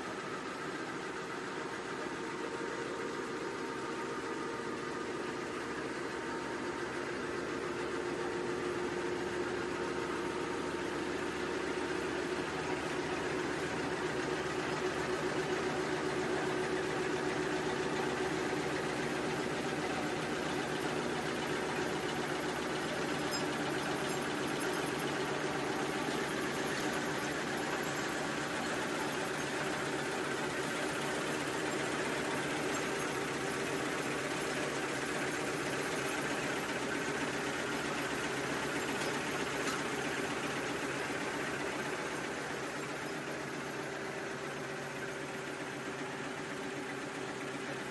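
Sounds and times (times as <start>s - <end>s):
tissue machine rattling and humming: 0.0s - 47.9s.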